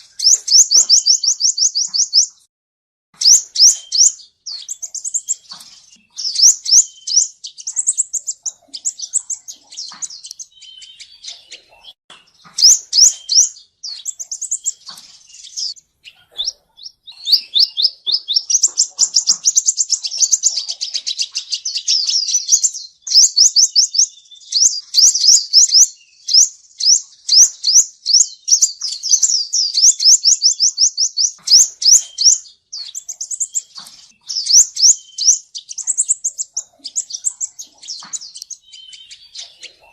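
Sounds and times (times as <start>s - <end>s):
bird chirping and trilling: 0.0s - 2.5s, 3.2s - 39.9s.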